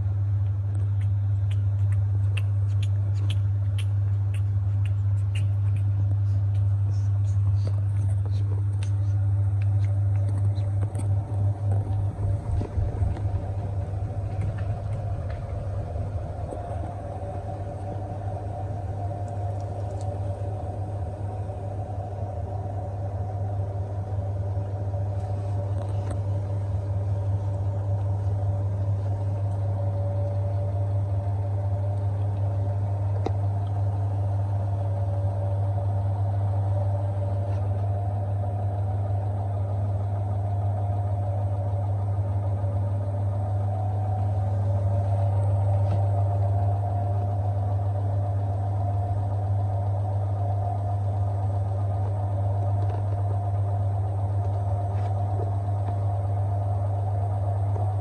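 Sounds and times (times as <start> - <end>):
fluttering rumble: 0.0 - 58.0
washing machine humming: 0.0 - 58.0
motor whine: 9.3 - 58.0.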